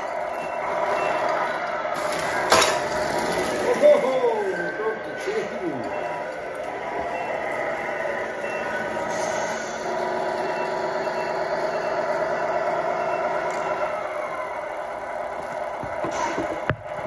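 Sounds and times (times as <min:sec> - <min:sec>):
high reversing beeps: 0:00.0 - 0:02.7, 0:03.7 - 0:14.8
simulated truck engine: 0:00.0 - 0:17.0.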